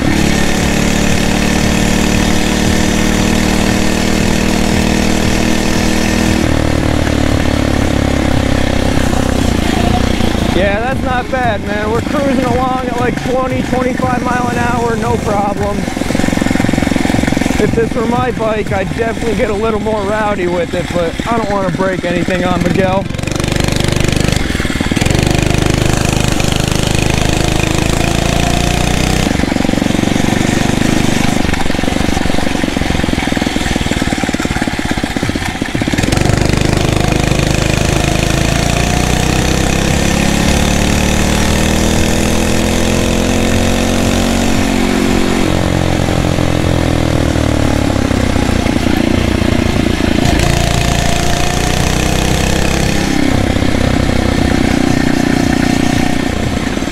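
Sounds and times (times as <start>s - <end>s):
small four-stroke engine under load: 0.0s - 56.9s
steady rushing noise: 0.0s - 56.9s.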